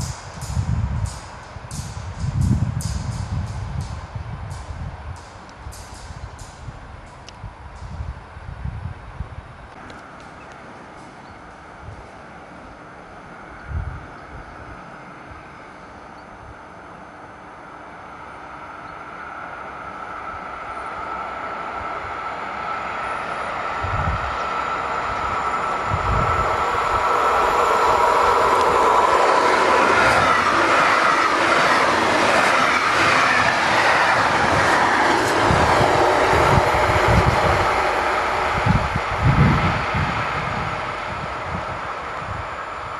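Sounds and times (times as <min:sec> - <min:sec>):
train passing close by: 0:00.0 - 0:42.9.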